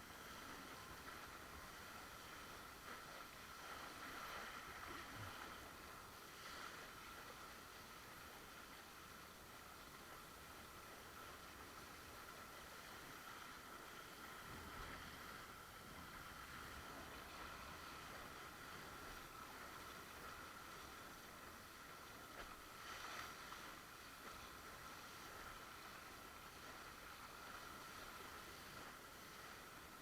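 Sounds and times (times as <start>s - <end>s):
water rushing around board: 0.0s - 30.0s
wind: 0.0s - 30.0s.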